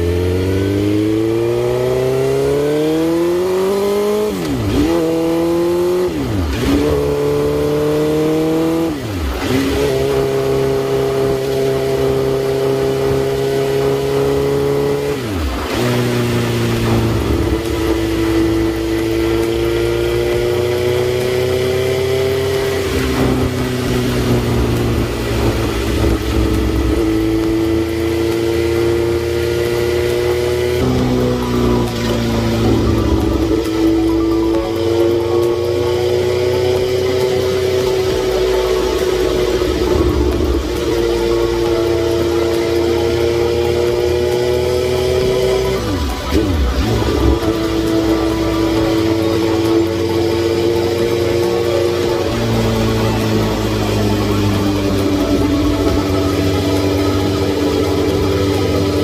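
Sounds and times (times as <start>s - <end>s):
motorcycle engine revving and shifting: 0.0s - 59.0s.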